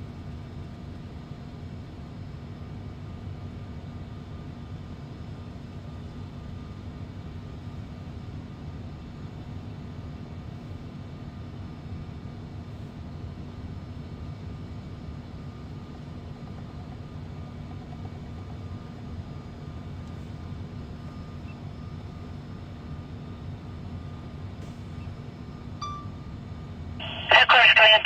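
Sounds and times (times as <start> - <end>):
faint constant hum: 0.0 - 28.0.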